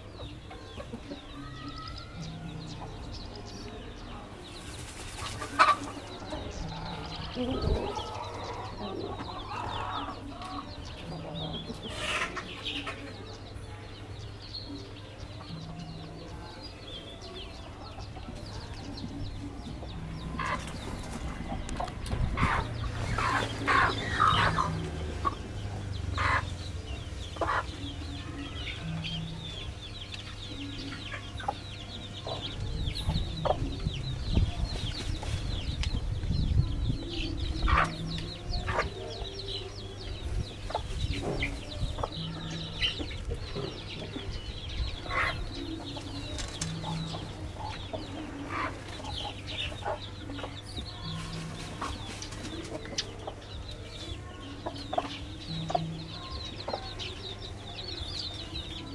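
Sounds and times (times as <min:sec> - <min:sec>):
chickens clucking: 0:00.0 - 0:58.9.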